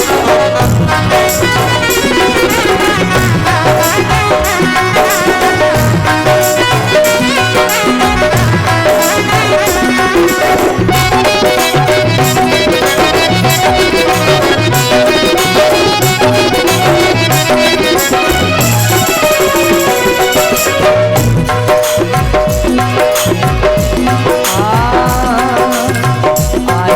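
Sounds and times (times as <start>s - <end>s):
melody instruments holding notes: 0.0s - 26.7s
hand drum beat: 0.0s - 26.9s.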